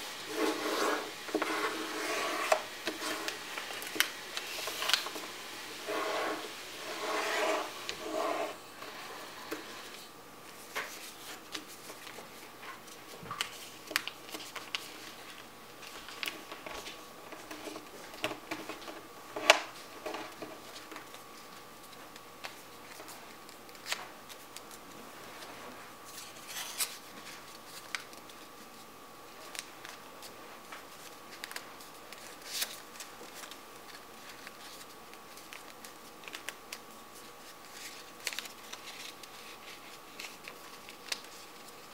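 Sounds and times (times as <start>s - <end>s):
paper folding and crinkling: 0.0s - 41.9s.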